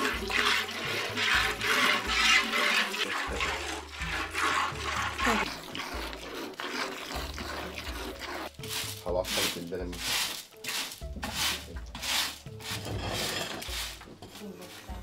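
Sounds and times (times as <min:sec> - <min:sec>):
milk squirting into pail: 0:00.0 - 0:14.0.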